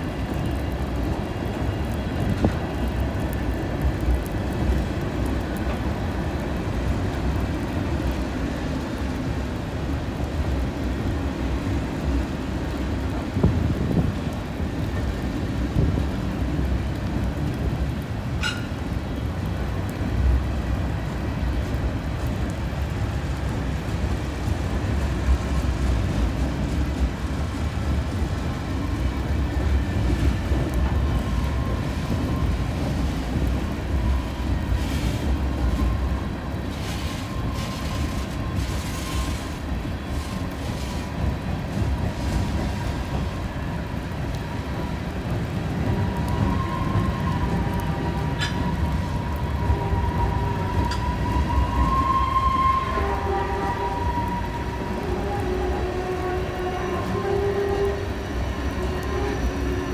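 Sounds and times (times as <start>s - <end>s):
freight train rumbling over trestle: 0.0s - 59.9s.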